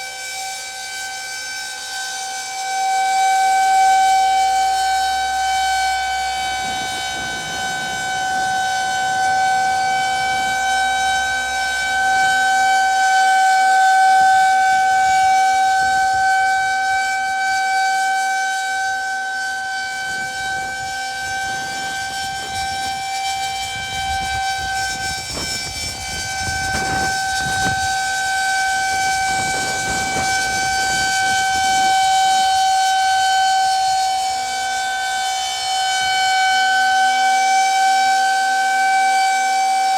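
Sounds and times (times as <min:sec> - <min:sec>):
steady rotating warning siren: 0:00.0 - 0:39.9.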